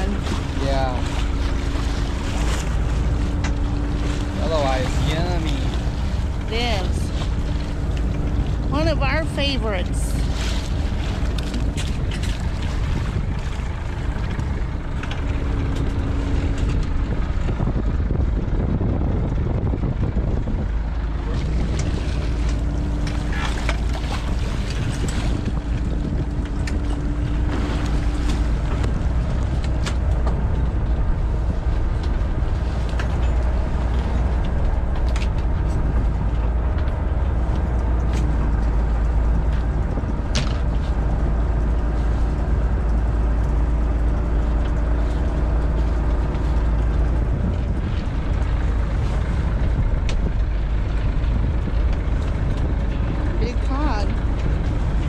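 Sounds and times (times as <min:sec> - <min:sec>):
boat engine rumbling: 0:00.0 - 0:55.0.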